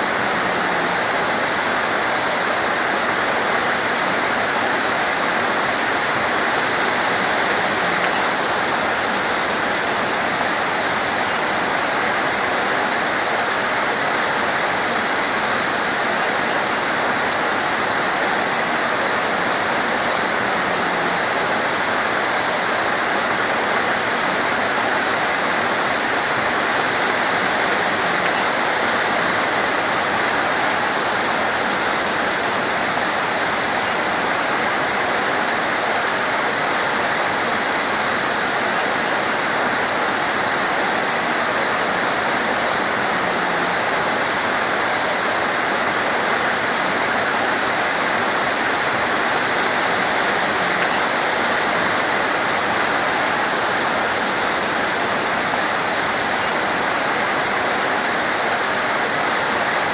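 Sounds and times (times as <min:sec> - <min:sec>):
torrential rain pouring: 0:00.0 - 0:59.9.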